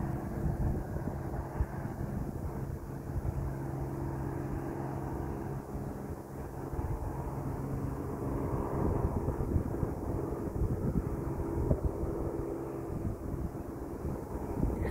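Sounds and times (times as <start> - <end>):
distant engine drone: 0.0 - 14.9.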